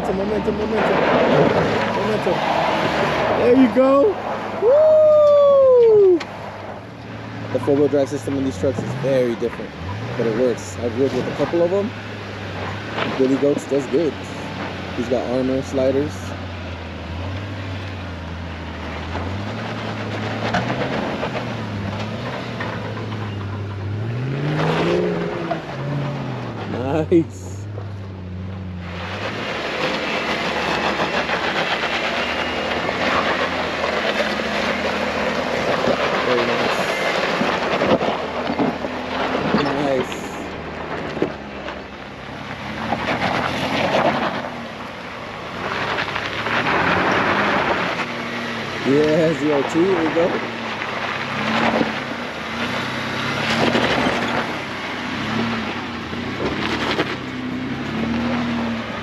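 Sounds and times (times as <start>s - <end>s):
truck engine running low: 0.0s - 59.0s.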